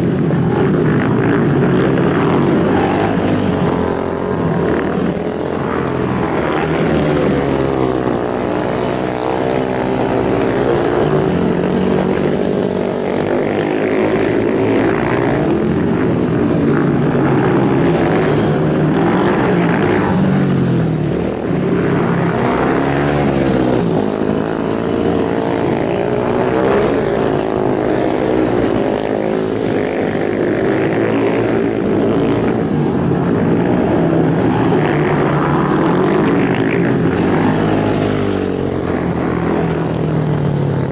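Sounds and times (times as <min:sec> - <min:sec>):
superbike engines running hard: 0:00.0 - 0:40.9.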